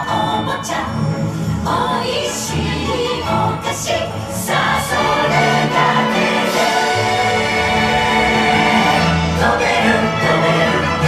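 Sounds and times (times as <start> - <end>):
orchestral music with choir: 0.0 - 11.0.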